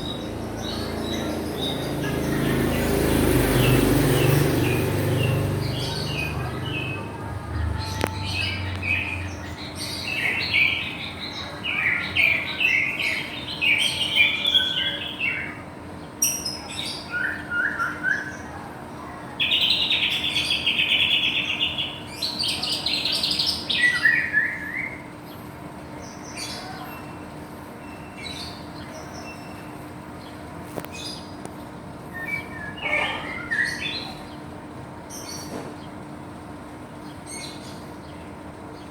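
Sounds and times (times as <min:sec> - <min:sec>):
bird singing: 0:00.0 - 0:18.7, 0:19.4 - 0:31.4, 0:32.1 - 0:34.5, 0:37.0 - 0:38.9.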